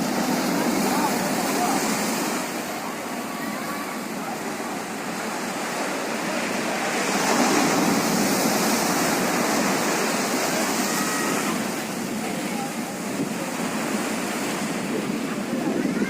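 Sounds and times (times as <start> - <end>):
sea surf breaking on beach: 0.0 - 16.0.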